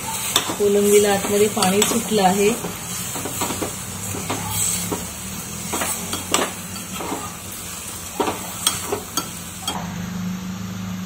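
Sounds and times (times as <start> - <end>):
metal spoon scraping metal pot: 0.0 - 5.0, 5.6 - 9.8.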